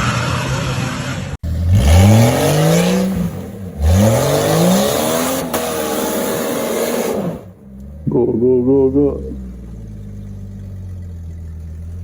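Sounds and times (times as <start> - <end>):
vehicle engine revving hard: 0.0 - 11.0.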